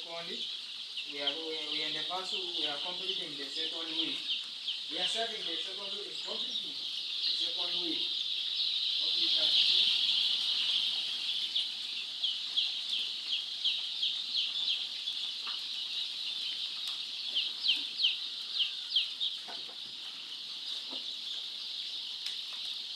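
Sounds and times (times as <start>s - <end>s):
chicks peeping: 0.0s - 22.9s.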